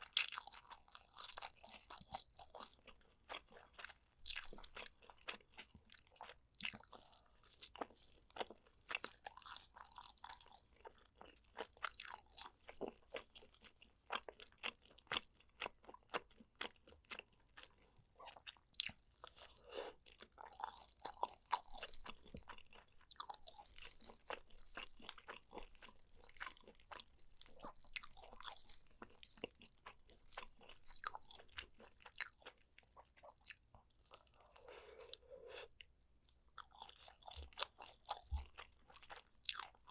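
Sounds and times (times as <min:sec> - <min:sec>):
crunchy chewing and biting: 0:00.0 - 0:35.8, 0:36.6 - 0:39.9.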